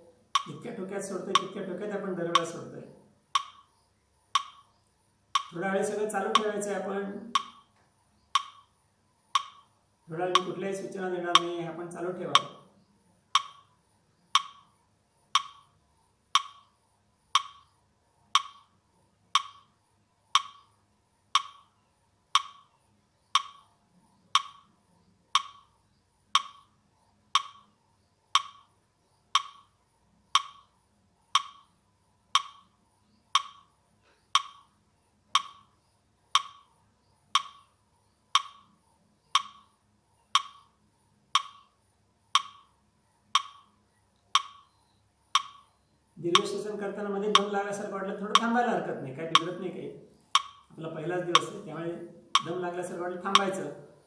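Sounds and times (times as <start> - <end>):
metronome ticking: 0.0 - 2.7, 3.3 - 12.7, 13.3 - 36.7, 37.3 - 54.0.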